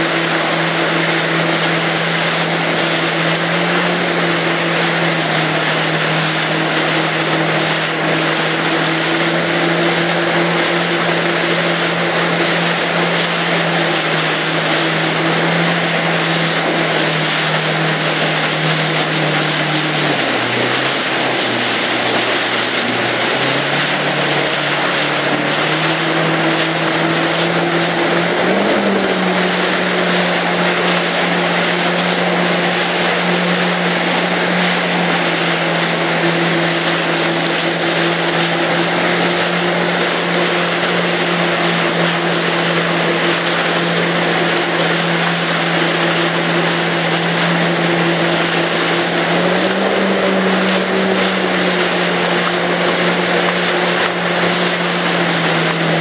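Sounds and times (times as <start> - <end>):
jet ski engine running: 0.0 - 56.0
water rushing: 0.0 - 56.0.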